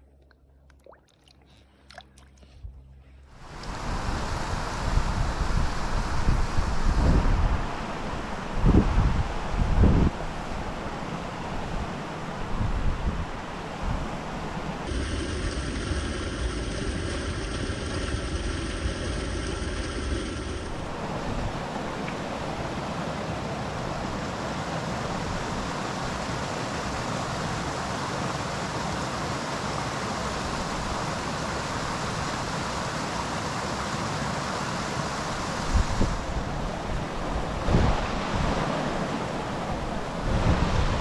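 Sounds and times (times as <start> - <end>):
flowing river water: 0.1 - 7.0, 13.4 - 41.0.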